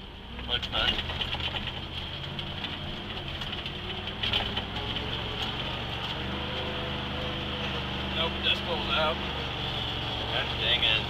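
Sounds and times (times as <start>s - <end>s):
pickup truck engine under load: 0.0s - 11.0s
tyres spinning in dirt: 0.4s - 11.0s.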